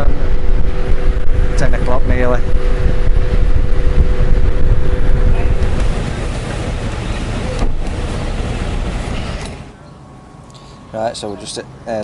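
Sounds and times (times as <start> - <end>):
wind rushing over microphone: 0.0 - 9.7
motorcycle engine and road rumble: 0.0 - 12.0.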